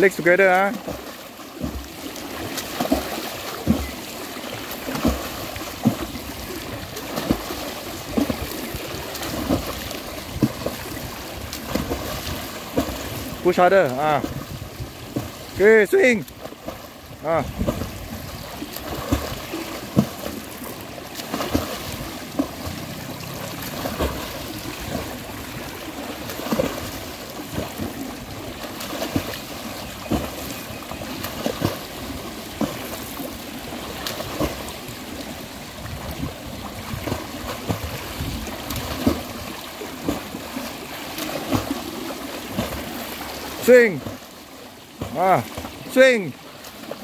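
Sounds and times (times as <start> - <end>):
swimmer splashing water: 0.0 - 47.0.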